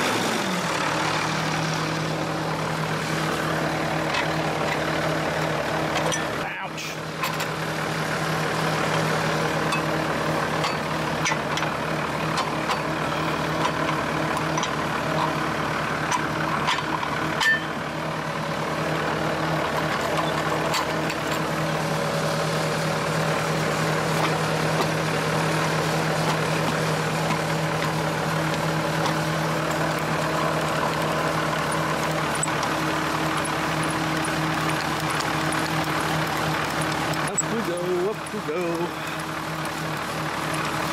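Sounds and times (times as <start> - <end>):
heavy machine engine idling: 0.0 - 40.9.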